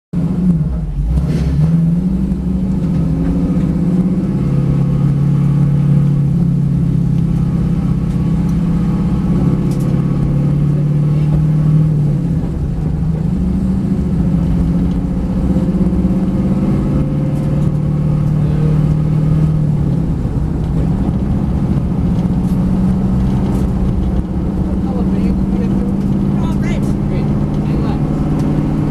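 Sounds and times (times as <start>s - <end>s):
race car engine revving: 0.2s - 28.9s.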